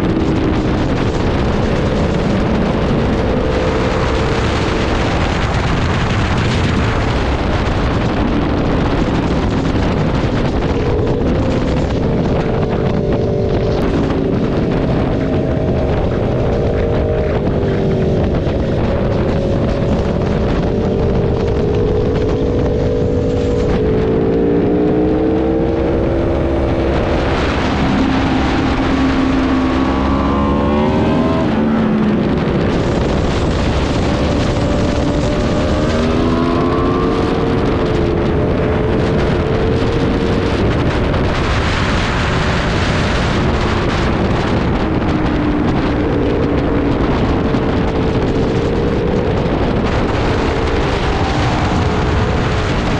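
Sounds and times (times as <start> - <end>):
motorcycle engine revving: 0.0 - 52.9
wind on microphone: 0.0 - 52.9.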